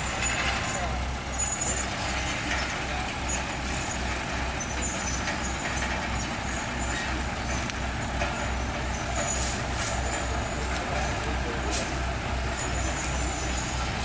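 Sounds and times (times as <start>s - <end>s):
bulldozer diesel engine throbbing: 0.0s - 14.0s.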